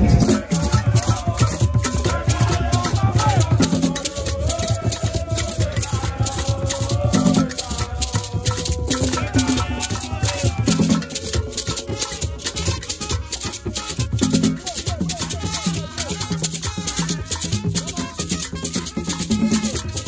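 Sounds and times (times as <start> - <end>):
music with shaker rhythm: 0.0 - 20.0.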